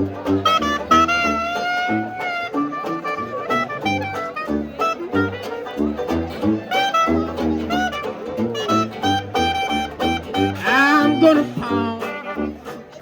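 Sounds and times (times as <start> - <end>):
horns playing melody: 0.0 - 13.0
tuba bass notes: 0.0 - 13.0.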